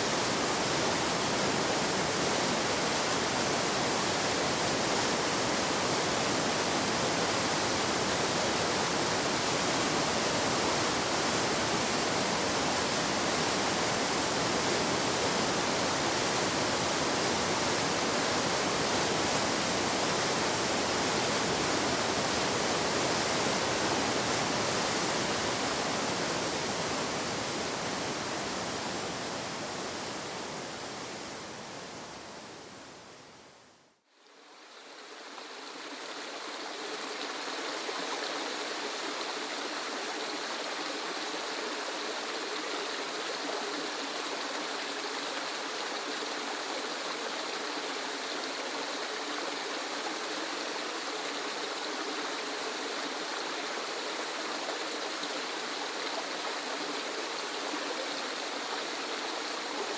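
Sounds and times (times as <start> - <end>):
rushing waterfall: 0.0 - 33.8, 34.4 - 59.9.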